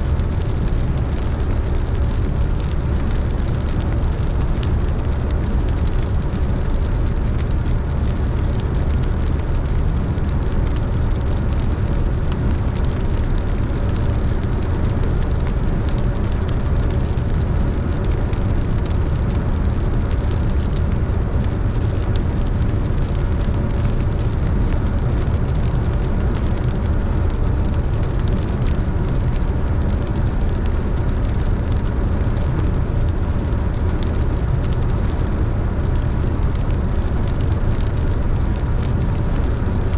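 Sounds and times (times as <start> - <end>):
car driving rumble: 0.0 - 39.9
rain ticking on car: 0.0 - 39.9.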